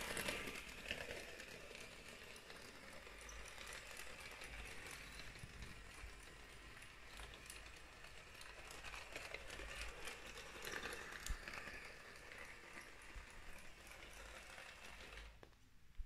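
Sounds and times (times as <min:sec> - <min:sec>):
toy train wheels clicking on track: 0:00.0 - 0:15.5.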